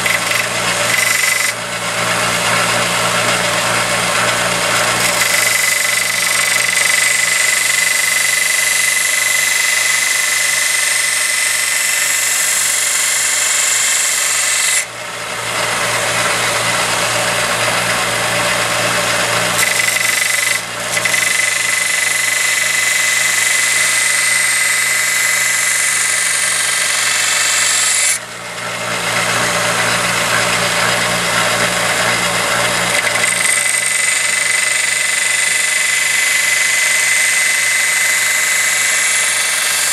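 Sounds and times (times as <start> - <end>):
belt grinder motor hum: 0.0 - 39.9.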